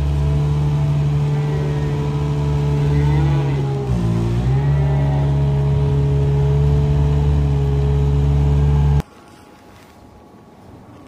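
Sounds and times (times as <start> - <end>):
diesel engine running: 0.0 - 9.0.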